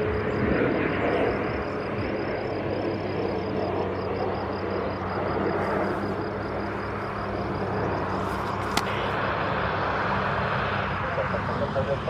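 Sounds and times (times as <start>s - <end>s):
distant engine roar: 0.0s - 12.0s.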